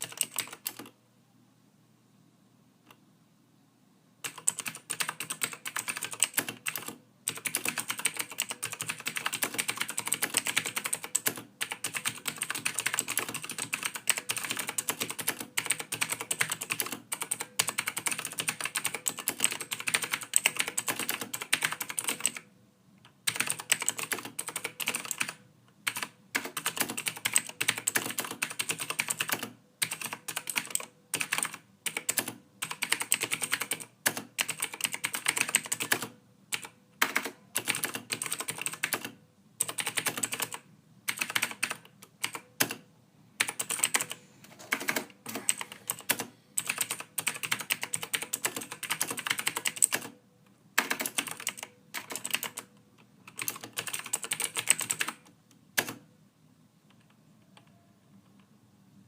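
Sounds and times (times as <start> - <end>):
typing on computer keyboard: 0.0 - 1.0, 4.2 - 22.5, 23.2 - 42.8, 43.4 - 50.2, 50.8 - 56.0.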